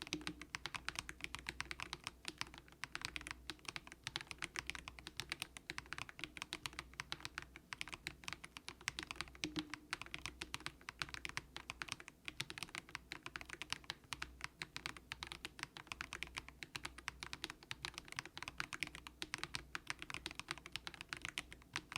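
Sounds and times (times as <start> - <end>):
typing on mechanical keyboard: 0.0 - 21.9.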